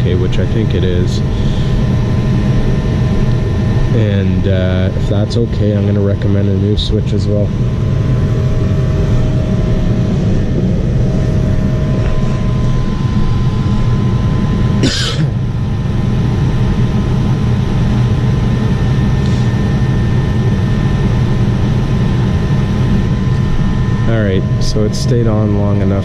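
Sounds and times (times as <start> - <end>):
gas furnace running: 0.0 - 26.0.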